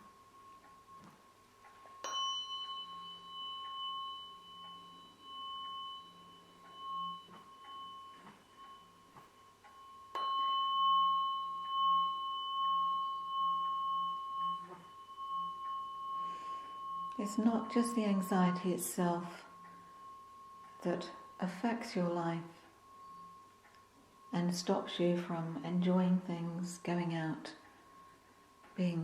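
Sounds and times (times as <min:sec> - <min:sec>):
struck metal singing bowl ringing: 0:00.0 - 0:29.0
wavering low tone: 0:00.0 - 0:29.0.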